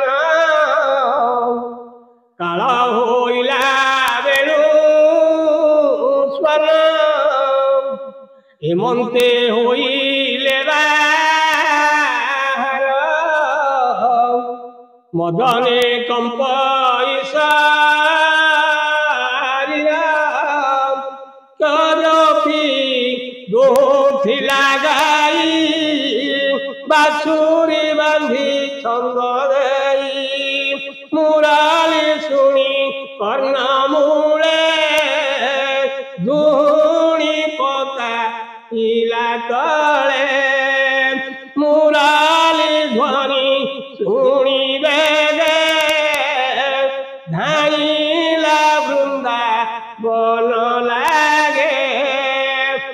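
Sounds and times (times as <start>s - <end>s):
person chanting melodically: 0.0s - 14.6s, 15.2s - 52.9s.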